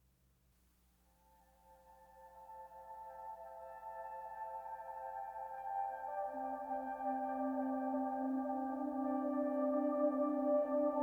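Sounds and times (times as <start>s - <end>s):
ambient music with soft pads: 1.0s - 11.0s.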